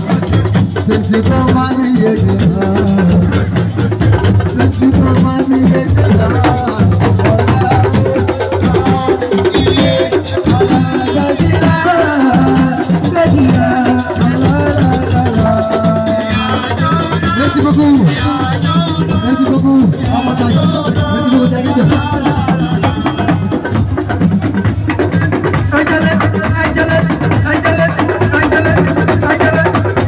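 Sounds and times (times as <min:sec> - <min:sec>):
drums and shakers beat: 0:00.0 - 0:30.0.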